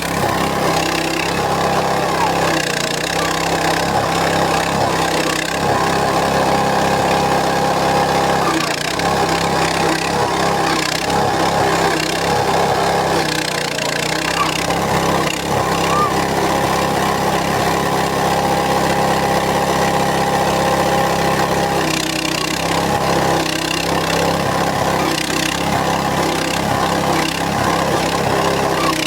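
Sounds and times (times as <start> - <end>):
grinding machine running: 0.0 - 29.0.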